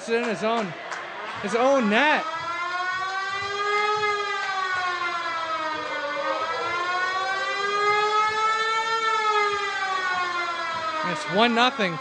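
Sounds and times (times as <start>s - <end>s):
goal siren wailing: 0.1s - 12.0s.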